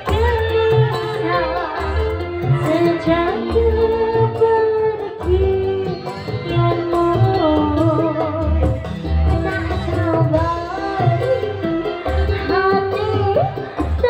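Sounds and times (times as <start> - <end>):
electric guitar: 0.0 - 14.0
woman singing into a microphone: 0.0 - 14.0.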